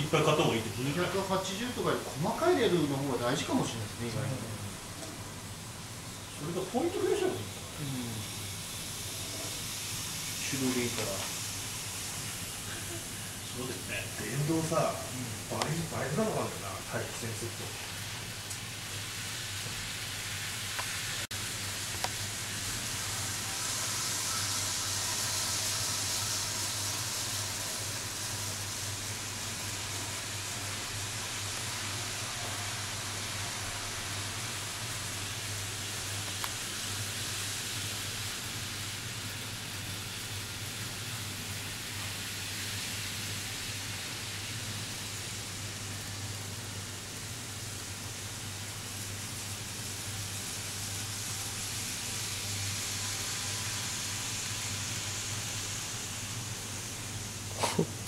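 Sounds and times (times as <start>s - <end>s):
model trains running on track: 0.0s - 4.9s, 6.1s - 57.4s.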